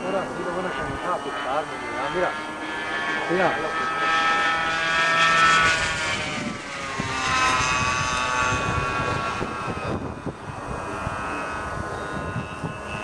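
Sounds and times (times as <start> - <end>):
model airplane engine in flight: 0.0 - 13.0.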